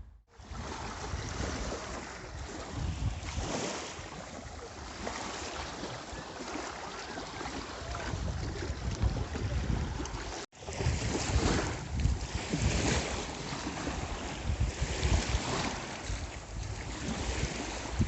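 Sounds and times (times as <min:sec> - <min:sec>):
wind buffeting microphone: 0:00.0 - 0:18.0
sea washing: 0:00.3 - 0:18.0.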